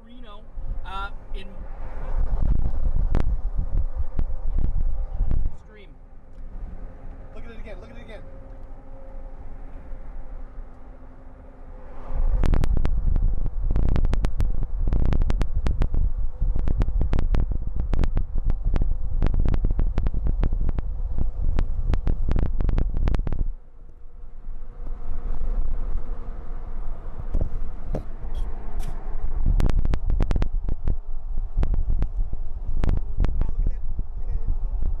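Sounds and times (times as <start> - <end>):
vehicle hum: 0.0 - 35.0
wind buffeting microphone: 0.2 - 7.2, 11.8 - 35.0.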